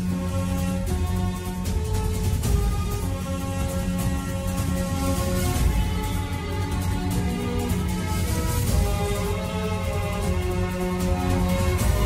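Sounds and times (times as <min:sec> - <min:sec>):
deep pulsing bass: 0:00.0 - 0:12.0.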